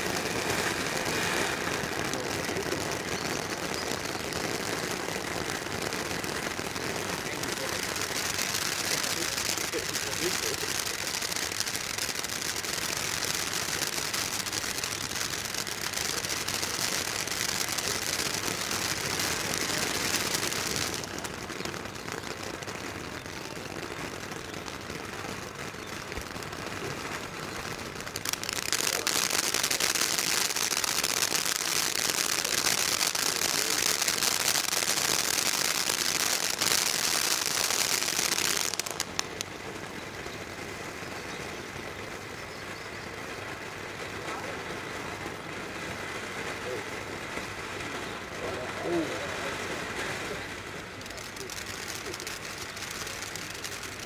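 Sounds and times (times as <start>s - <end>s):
firework fountain hissing: 0.0s - 54.0s
firework pops: 0.0s - 54.0s.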